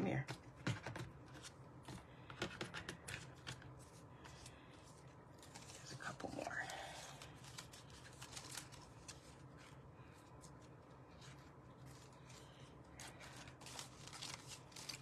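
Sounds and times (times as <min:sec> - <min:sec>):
low steady hum: 0:00.0 - 0:15.0
cardstock rustling and ticking: 0:00.2 - 0:15.0.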